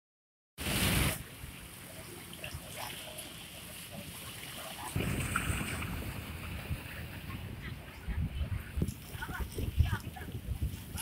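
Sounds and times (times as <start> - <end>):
steady sea wash: 0.6 - 11.0
water lapping: 0.6 - 11.0.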